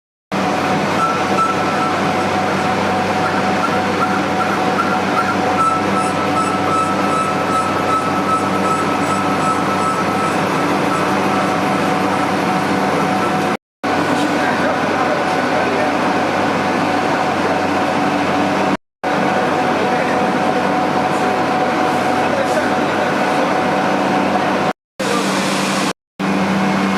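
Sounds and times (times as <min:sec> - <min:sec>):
machine humming with high whine: 0:00.4 - 0:26.9.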